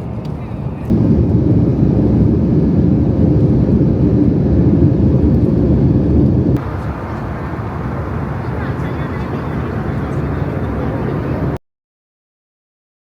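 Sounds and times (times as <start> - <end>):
faint hum: 0.0 - 11.6
jet engine rumble in cabin: 0.0 - 11.6.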